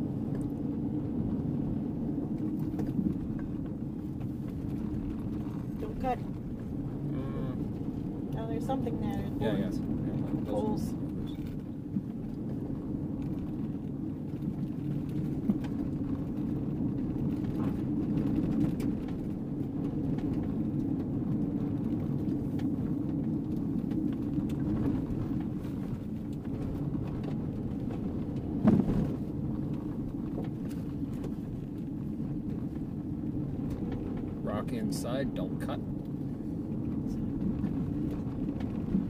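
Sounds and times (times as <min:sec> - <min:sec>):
gravel clicks: 0:00.0 - 0:39.0
tyres and engine rumbling: 0:00.0 - 0:39.0.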